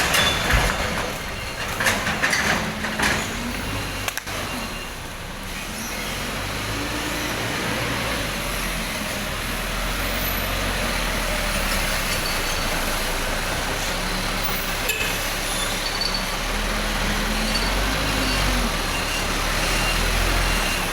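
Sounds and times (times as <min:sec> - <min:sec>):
forklift engine running: 0:00.0 - 0:20.9.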